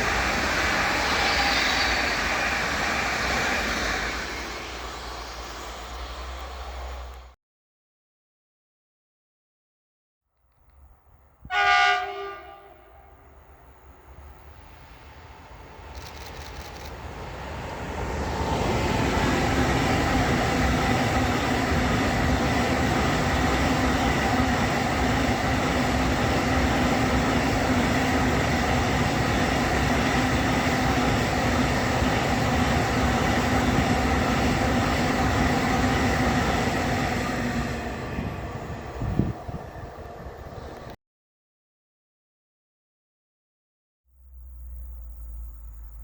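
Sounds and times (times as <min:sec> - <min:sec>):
freight train rumble: 0:00.0 - 0:07.4, 0:10.8 - 0:41.0.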